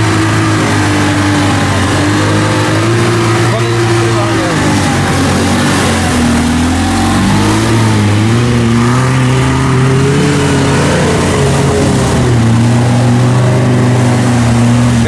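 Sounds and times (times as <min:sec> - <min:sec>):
vehicle engine under load: 0:00.0 - 0:15.0.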